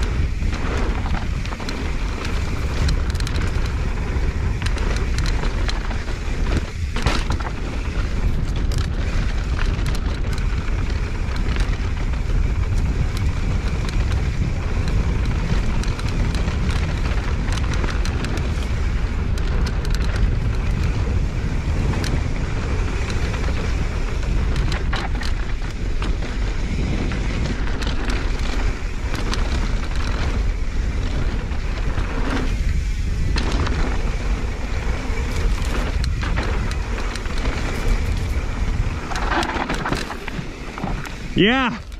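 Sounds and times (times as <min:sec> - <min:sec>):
bike clicks and rattles: 0:00.0 - 0:41.9
tyres rolling on dirt: 0:00.0 - 0:41.9
wind on microphone: 0:00.0 - 0:41.9.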